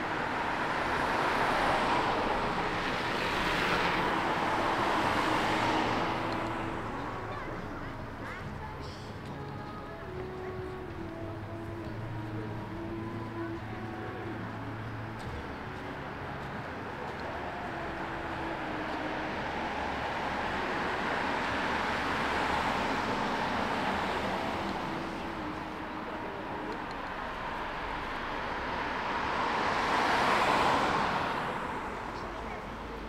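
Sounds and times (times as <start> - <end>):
vehicles passing: 0.0 - 33.0.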